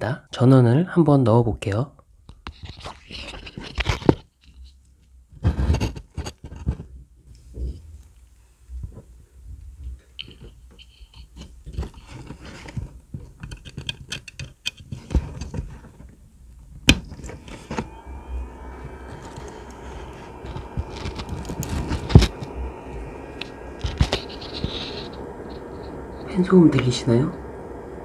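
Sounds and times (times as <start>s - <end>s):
small cooling fan whirring: 4.6s - 28.0s.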